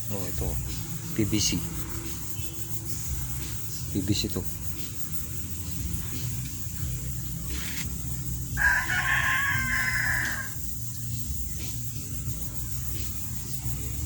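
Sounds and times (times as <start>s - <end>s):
bird calling: 0.0s - 11.6s.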